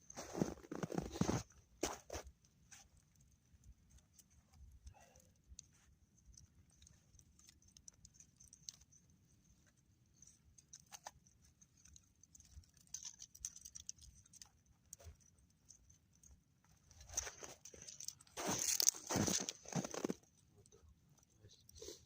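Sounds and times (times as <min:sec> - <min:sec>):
faint clicks and ticks: 0:01.4 - 0:22.0.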